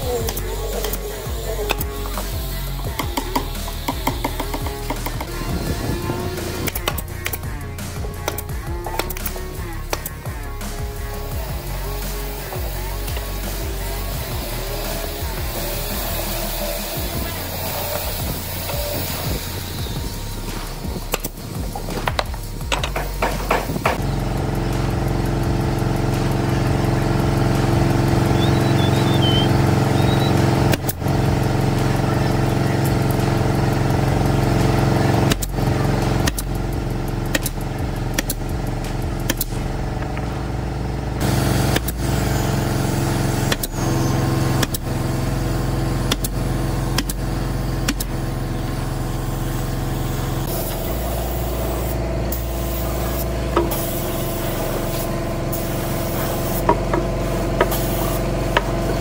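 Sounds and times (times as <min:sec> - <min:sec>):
machine humming: 0:00.0 - 0:59.0.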